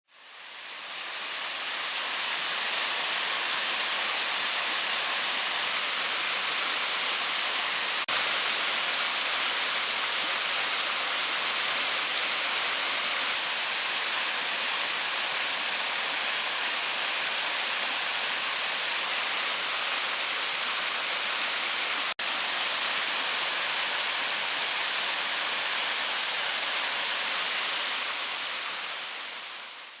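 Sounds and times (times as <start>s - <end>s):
rushing stream water: 0.2s - 30.0s.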